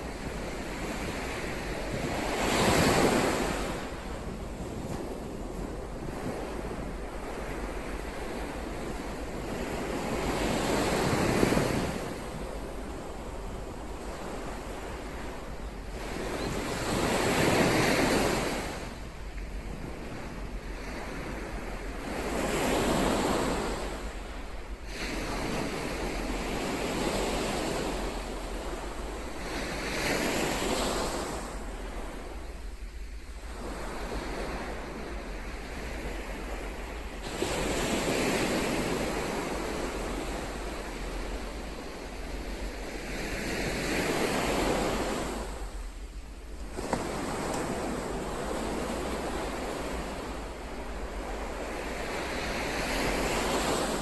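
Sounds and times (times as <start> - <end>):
waves breaking: 0.0 - 54.0.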